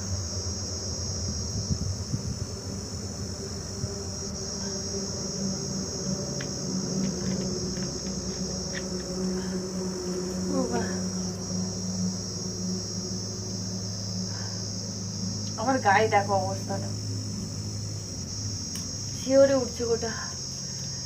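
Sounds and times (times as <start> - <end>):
insect chirring: 0.0 - 21.0
low steady hum: 0.0 - 21.0.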